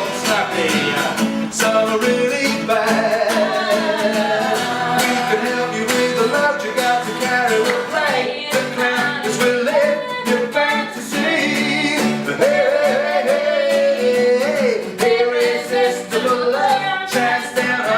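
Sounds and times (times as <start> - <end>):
person singing: 0.0 - 17.9
strummed acoustic guitar: 0.0 - 17.9.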